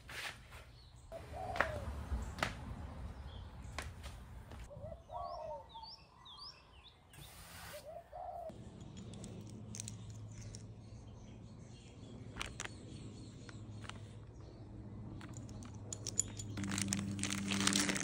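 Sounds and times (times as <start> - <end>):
birds calling: 0.7 - 18.0.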